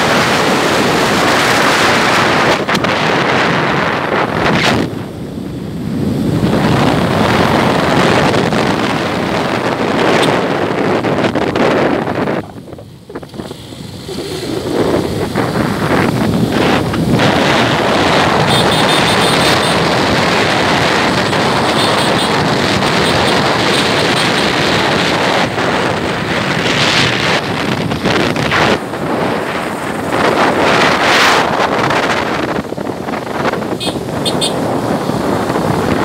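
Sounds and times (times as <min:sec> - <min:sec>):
motorcycle road noise: 0:00.0 - 0:36.0
wind rushing over microphone: 0:00.0 - 0:36.0.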